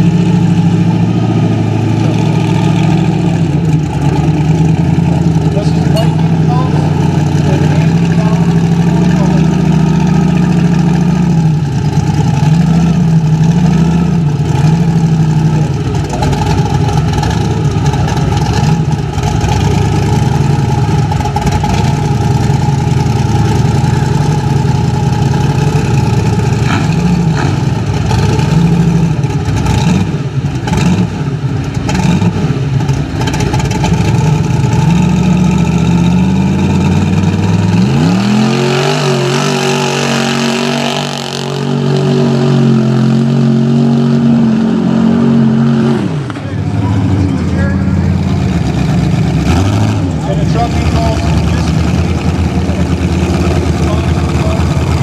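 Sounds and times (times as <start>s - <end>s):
engine idling and revving: 0.0s - 55.0s.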